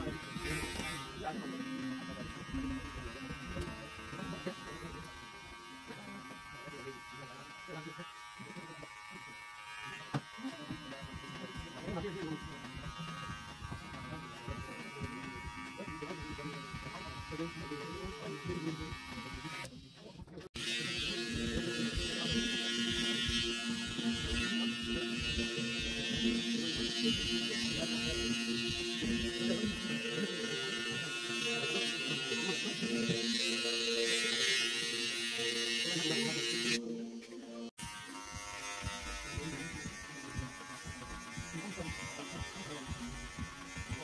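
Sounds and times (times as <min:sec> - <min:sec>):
electric hair trimmer buzzing: 0:00.0 - 0:44.0
higher-pitched clipper buzz: 0:00.0 - 0:44.0.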